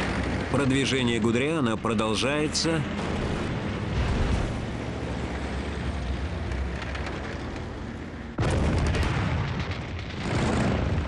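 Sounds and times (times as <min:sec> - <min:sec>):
military vehicle engines rumbling: 0:00.0 - 0:11.0.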